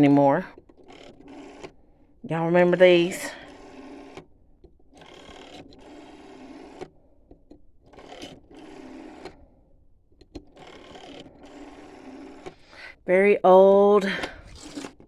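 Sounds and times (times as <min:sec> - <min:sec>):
rotary telephone dial whirring: 0:00.0 - 0:15.0.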